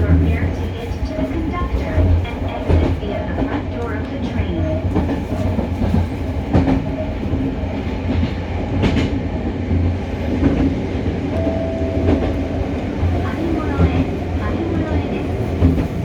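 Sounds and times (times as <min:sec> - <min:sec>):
rail-joint clacks: 0:00.0 - 0:16.0
wheel-on-rail rumble: 0:00.0 - 0:16.0.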